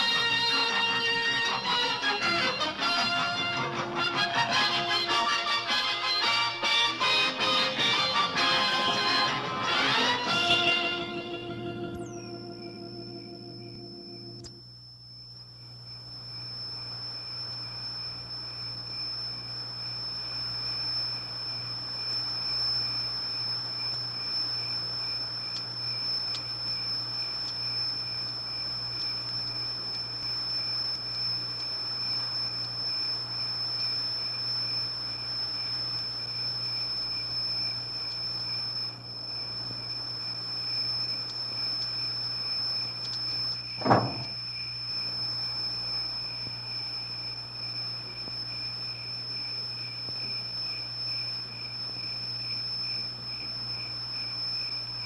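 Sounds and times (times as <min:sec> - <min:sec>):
high-pitched whine: 0:00.0 - 0:55.0
low hum: 0:08.3 - 0:55.0.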